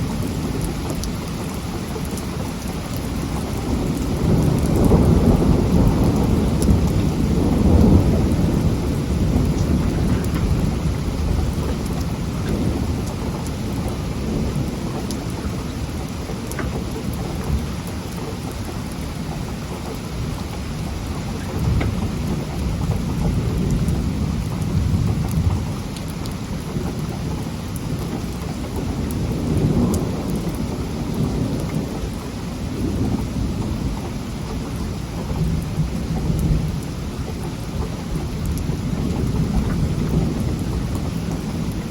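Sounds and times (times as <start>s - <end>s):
heavy rain falling: 0.0s - 41.9s
thunder rumbling: 0.0s - 41.9s.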